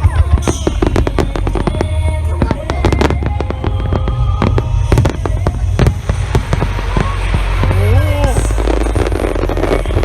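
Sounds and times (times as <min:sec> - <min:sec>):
fireworks bangs and crackles: 0:00.0 - 0:10.0
music playing: 0:00.0 - 0:10.0.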